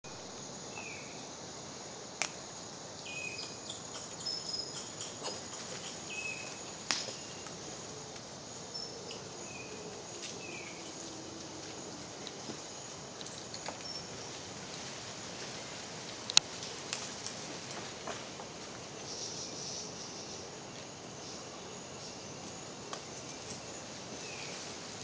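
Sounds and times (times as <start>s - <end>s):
high-pitched insect drone: 0.1s - 14.3s, 19.0s - 25.0s.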